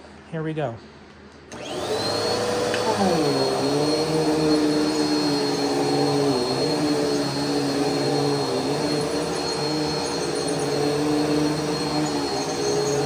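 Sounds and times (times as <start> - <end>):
vacuum cleaner running on carpet: 1.5 - 13.0.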